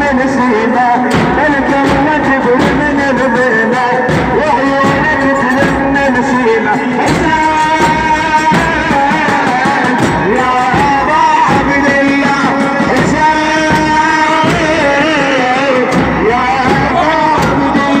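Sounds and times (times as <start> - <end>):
low pulsing beat: 0.0 - 18.0
wavering chant melody: 0.0 - 18.0.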